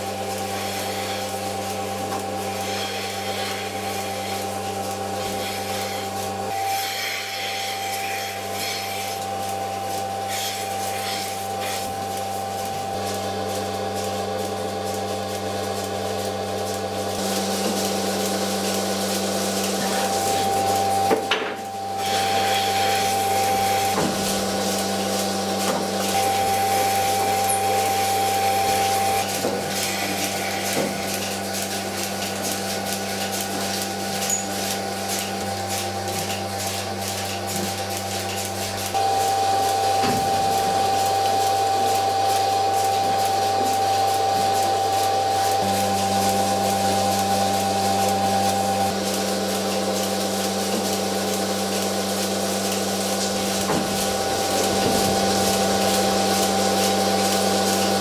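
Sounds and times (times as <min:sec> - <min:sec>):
milking machine motor hum: 0:00.0 - 0:58.0.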